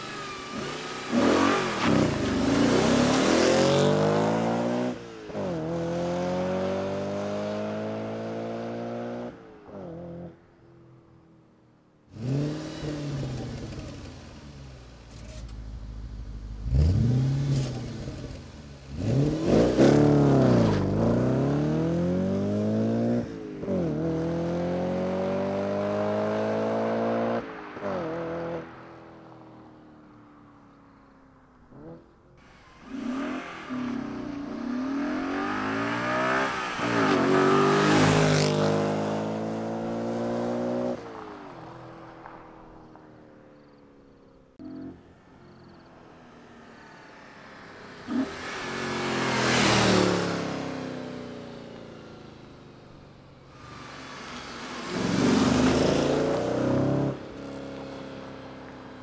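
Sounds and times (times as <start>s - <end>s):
car engine revving and accelerating: 0.0s - 10.4s, 12.1s - 28.9s, 31.7s - 41.6s, 44.6s - 51.9s, 53.5s - 58.7s.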